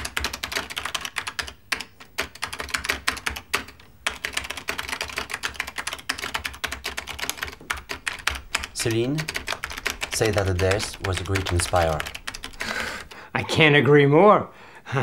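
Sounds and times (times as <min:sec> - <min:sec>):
typing on computer keyboard: 0:00.0 - 0:13.2.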